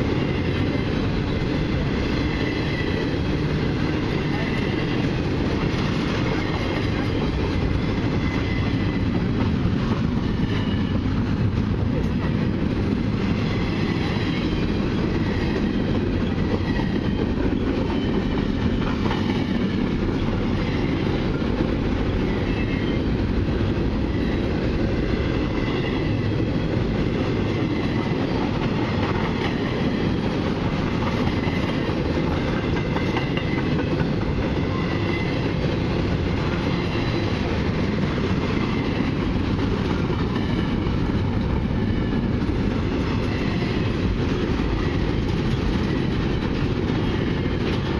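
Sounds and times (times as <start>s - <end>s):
freight train wheels clattering: 0.0s - 47.9s.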